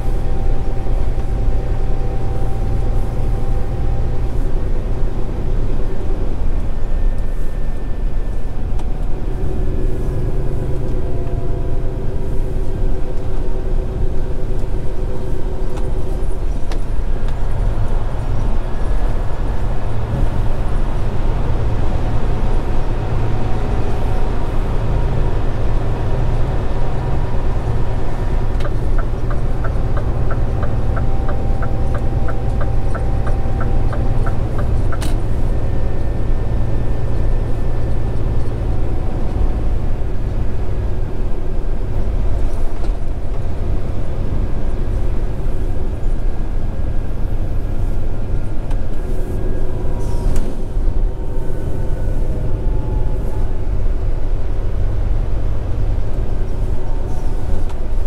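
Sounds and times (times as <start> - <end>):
truck diesel engine running: 0.0 - 58.0
tyre and road noise: 0.0 - 58.0.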